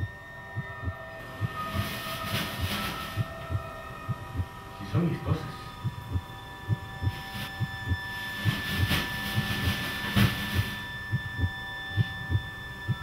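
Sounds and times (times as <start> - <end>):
high tone drone: 0.0 - 13.0
pulse of low thuds: 0.0 - 13.0.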